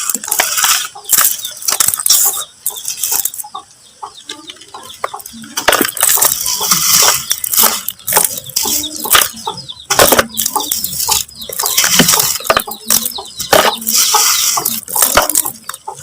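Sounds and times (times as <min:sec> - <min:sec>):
dried mud crumbling and crunching: 0:00.0 - 0:03.5, 0:04.9 - 0:16.0.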